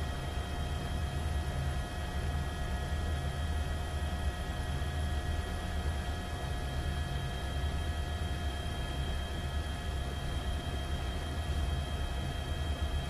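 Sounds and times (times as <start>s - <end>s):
helicopter rotor rumble: 0.0s - 13.0s.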